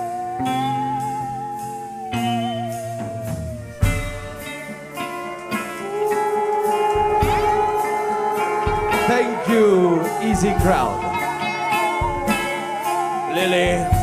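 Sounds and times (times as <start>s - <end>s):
live band music: 0.0s - 14.0s
sliding lead melody: 0.0s - 14.0s.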